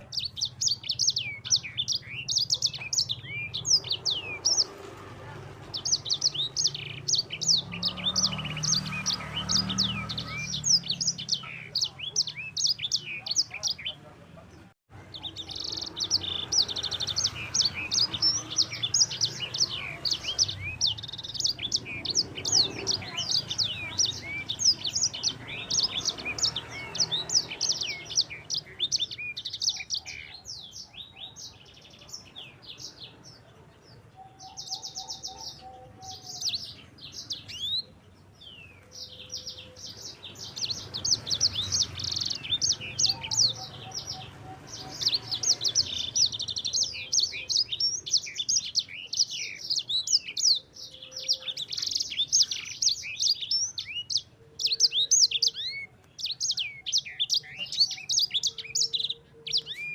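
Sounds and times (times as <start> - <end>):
songbird chirps and trills: 0.0 - 59.9.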